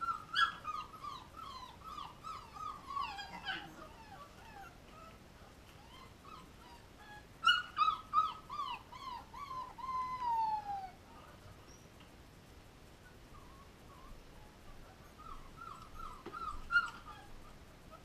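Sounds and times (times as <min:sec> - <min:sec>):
puppies whimpering and crying: 0:00.0 - 0:11.9, 0:13.2 - 0:18.0.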